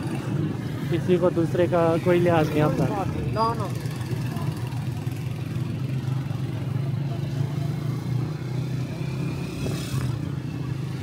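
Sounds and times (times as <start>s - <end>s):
street traffic hum: 0.0s - 11.0s
motorcycle engine running: 2.0s - 11.0s.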